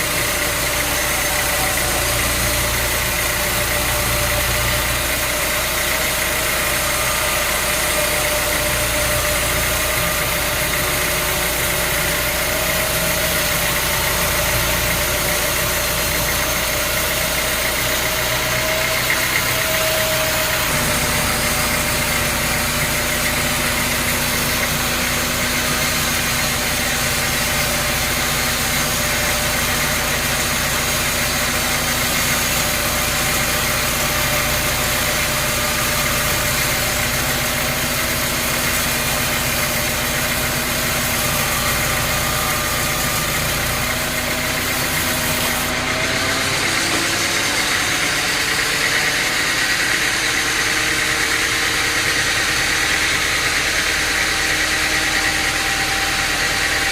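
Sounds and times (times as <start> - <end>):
sawmill machinery droning: 0.0 - 56.9.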